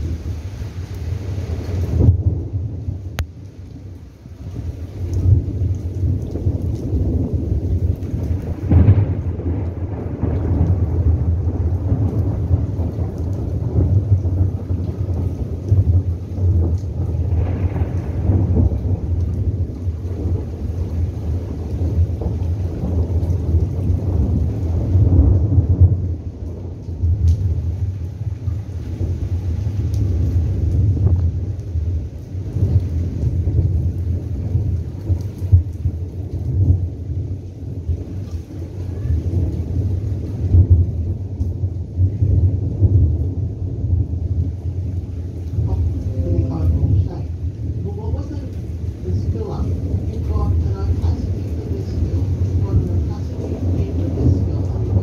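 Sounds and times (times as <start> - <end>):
low thunder rumble: 0.0 - 55.0
rain: 0.0 - 55.0.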